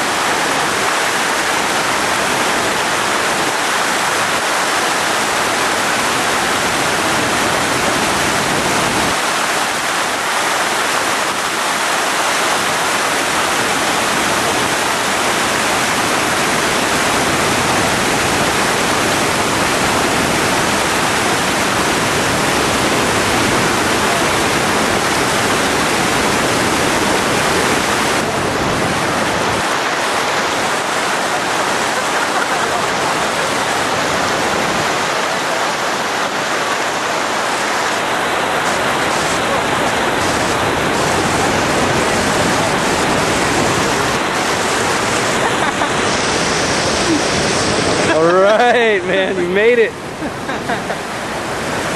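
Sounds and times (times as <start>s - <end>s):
waterfall rushing over rocks: 0.0s - 51.9s.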